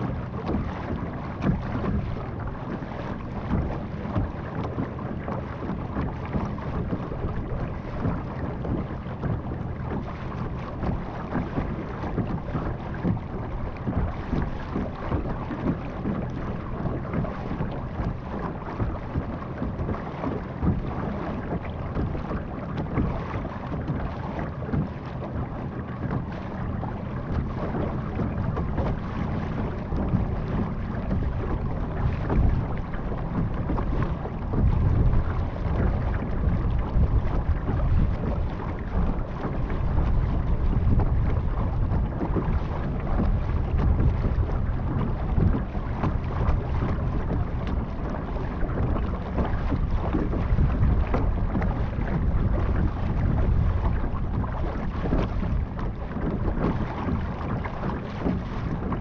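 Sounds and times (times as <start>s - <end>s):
low motor hum: 0.0s - 59.0s
water rushing along hull: 0.0s - 59.0s
wind buffeting microphone: 0.0s - 59.0s.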